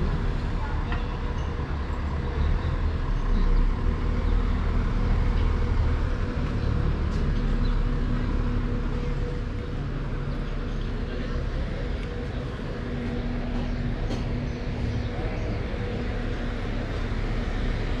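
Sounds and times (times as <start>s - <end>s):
city street noise: 0.0s - 18.0s
vehicle engine humming: 0.0s - 18.0s.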